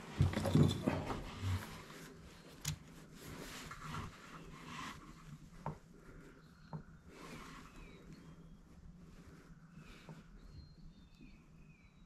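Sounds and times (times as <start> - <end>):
faint rustling: 0.0 - 11.6.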